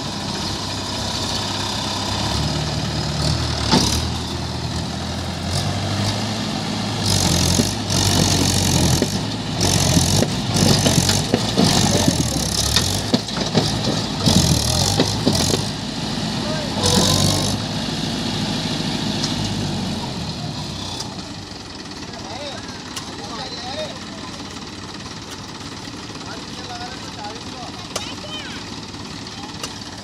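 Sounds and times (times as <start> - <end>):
tractor engines running: 0.0 - 30.0.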